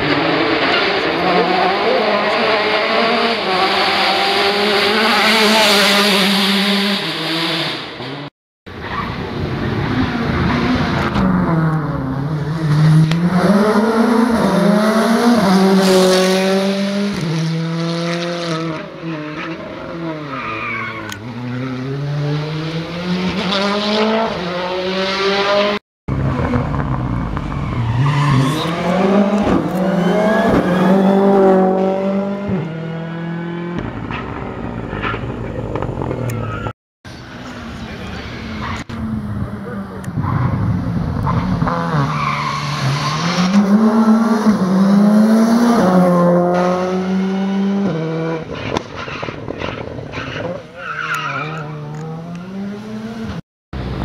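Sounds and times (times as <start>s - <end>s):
rally cars passing at full speed: 0.0s - 54.0s.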